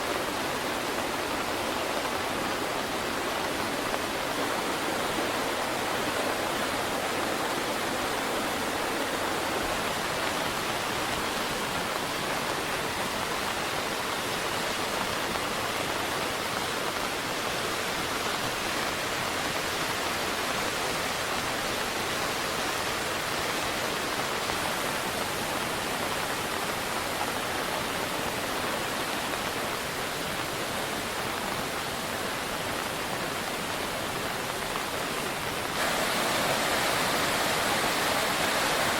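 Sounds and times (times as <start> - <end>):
fast-flowing river water rushing: 0.0 - 38.9.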